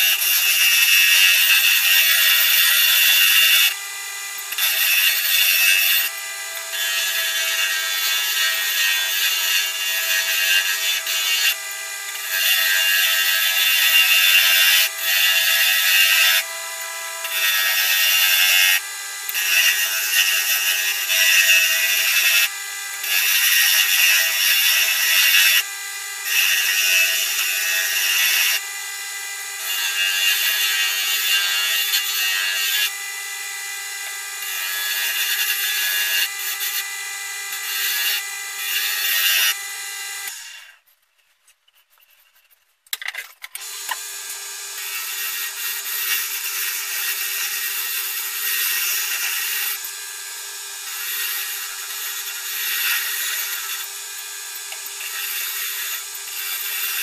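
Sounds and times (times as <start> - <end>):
lathe tool scraping wood: 0.0 - 40.9, 43.6 - 57.0.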